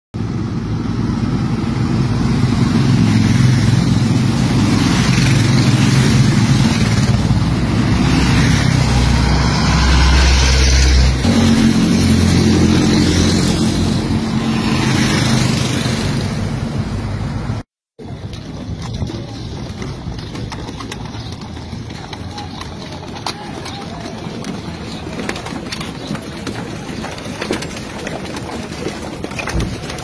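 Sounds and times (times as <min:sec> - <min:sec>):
vehicle engines driving past: 0:00.2 - 0:30.0.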